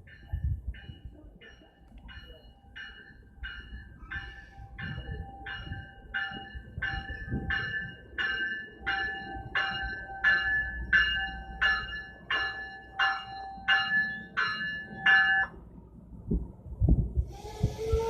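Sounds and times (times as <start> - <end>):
locomotive bell ringing: 0.0 - 15.7.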